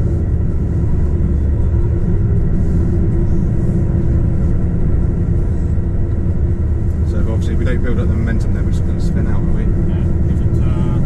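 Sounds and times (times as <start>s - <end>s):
road rumble: 0.0s - 11.0s
truck diesel engine drone: 0.0s - 11.0s.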